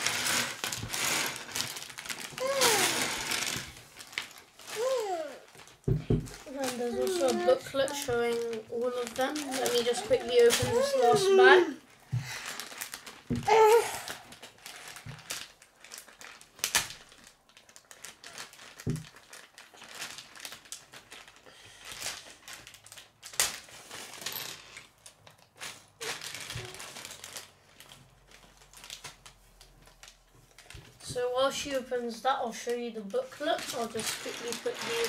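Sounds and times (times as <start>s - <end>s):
plastic bag crinkling: 0.0s - 35.0s.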